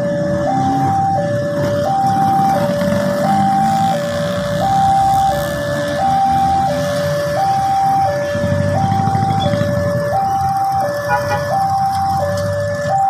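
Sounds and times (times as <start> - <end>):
level crossing two-tone alarm: 0.0 - 13.0
minibus engine: 0.0 - 13.0
motorcycle engines: 0.0 - 13.0.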